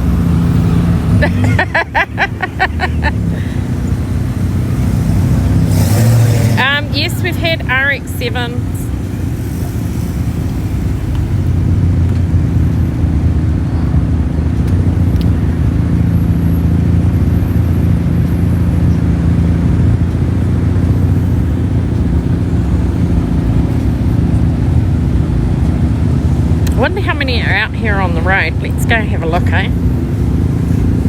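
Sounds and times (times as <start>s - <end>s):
car engine running at low revs: 0.0s - 31.0s.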